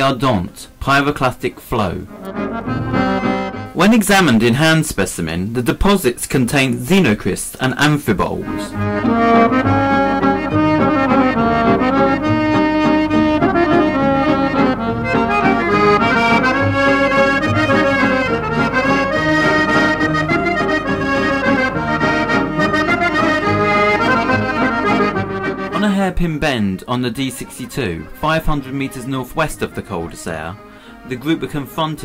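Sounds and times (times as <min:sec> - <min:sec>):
accordion music: 0:01.7 - 0:04.8, 0:07.8 - 0:32.0.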